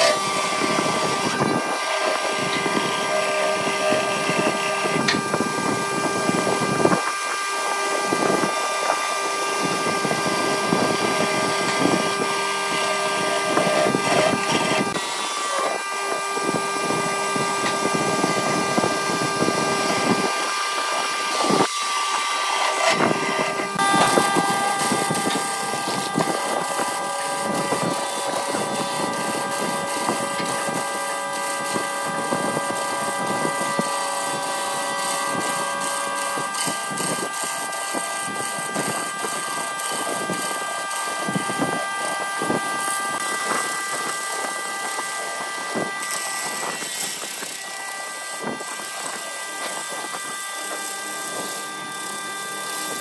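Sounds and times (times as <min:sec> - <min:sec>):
gouge scraping wood: 0:00.0 - 0:42.6
wood lathe whine: 0:00.0 - 0:53.0.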